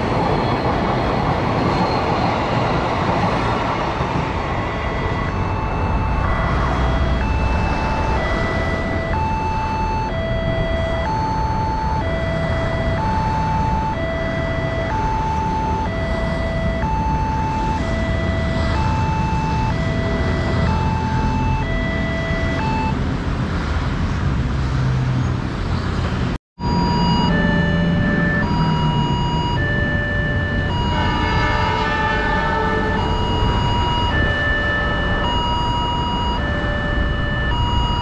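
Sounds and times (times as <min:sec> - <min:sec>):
two-tone electronic warning chime: 0:01.5 - 0:23.0, 0:26.6 - 0:38.0.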